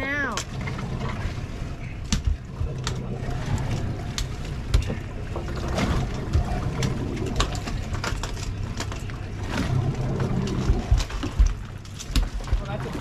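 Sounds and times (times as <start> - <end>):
outboard motor idling: 0.0 - 13.0
wind and water noise: 0.0 - 13.0.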